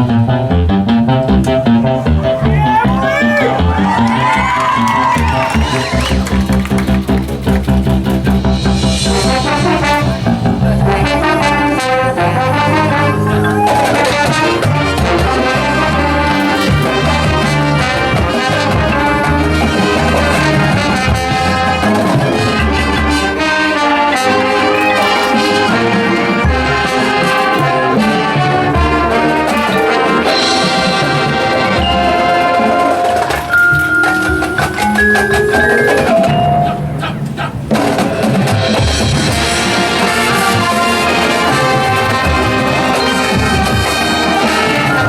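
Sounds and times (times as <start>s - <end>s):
marching band brass playing: 0.0s - 45.0s.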